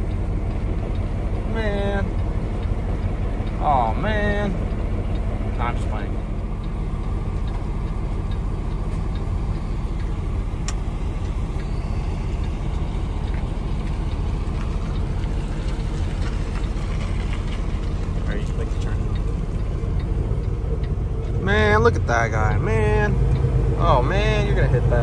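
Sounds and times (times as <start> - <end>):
truck diesel engine idling: 0.0 - 25.0.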